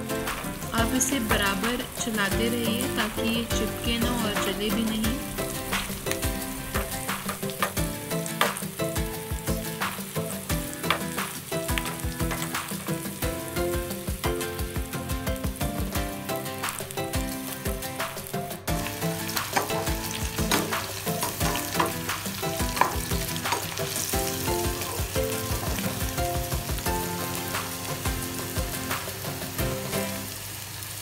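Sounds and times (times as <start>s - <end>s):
battered okra frying in oil: 0.0s - 31.0s.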